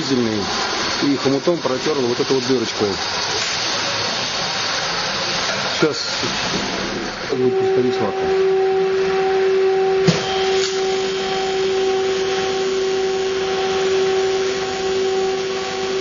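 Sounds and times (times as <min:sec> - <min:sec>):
welding arc buzzing and hissing: 0:00.0 - 0:08.1, 0:10.0 - 0:16.0.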